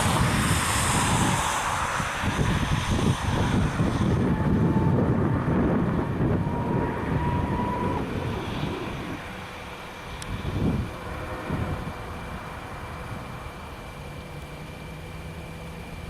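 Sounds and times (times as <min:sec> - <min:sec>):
wind buffeting microphone: 0:00.0 - 0:13.6
freight train rumbling past: 0:00.0 - 0:14.2
faint thin whine: 0:00.0 - 0:16.0.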